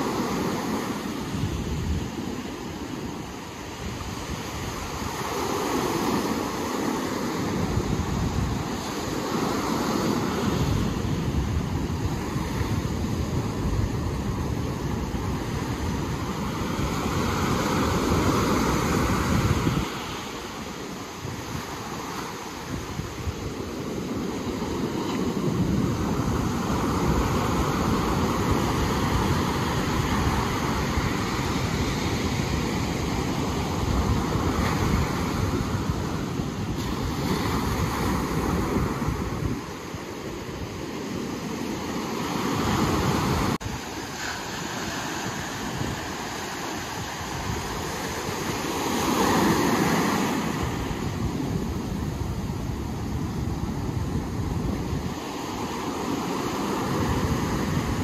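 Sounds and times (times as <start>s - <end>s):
ocean surf washing ashore: 0.0s - 58.0s
wind rumbling on microphone: 0.0s - 58.0s.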